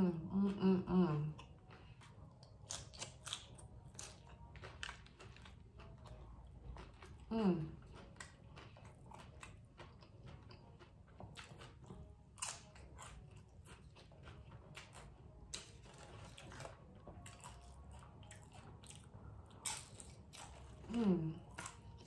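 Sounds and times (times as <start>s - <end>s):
person chewing crunchy chips: 1.3s - 22.0s.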